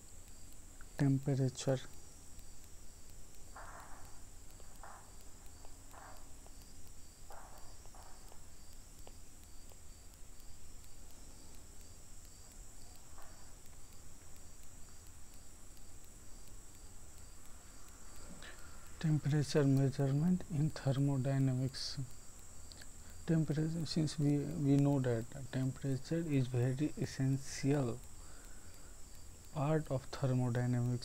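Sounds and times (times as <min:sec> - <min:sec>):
high-pitched whine: 0:00.0 - 0:31.0.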